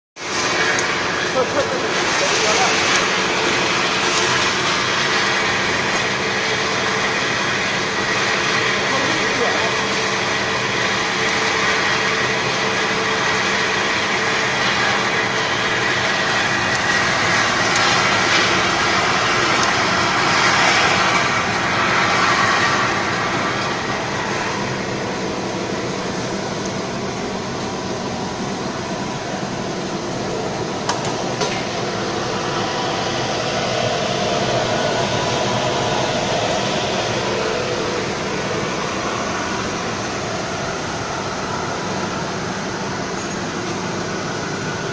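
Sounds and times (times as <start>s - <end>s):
machine motor hum: 0.2s - 44.9s.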